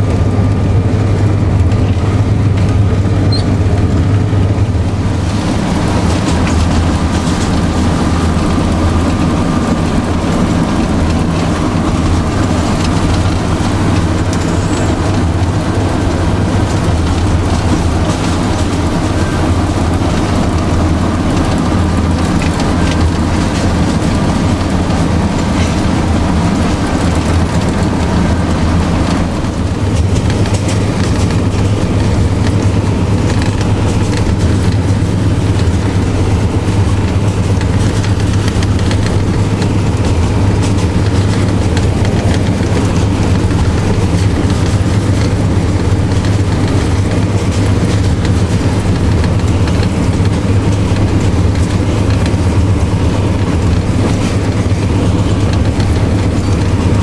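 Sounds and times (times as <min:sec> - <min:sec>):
diesel engine running under load: 0:00.0 - 0:57.0
train wheels clattering on track: 0:00.0 - 0:57.0.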